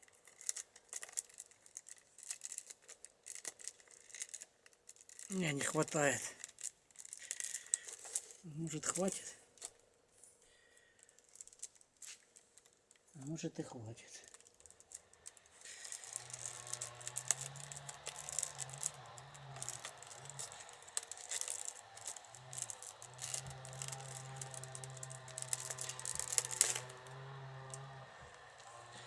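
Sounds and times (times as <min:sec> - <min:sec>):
wicker rods crackling and creaking: 0:00.0 - 0:29.0.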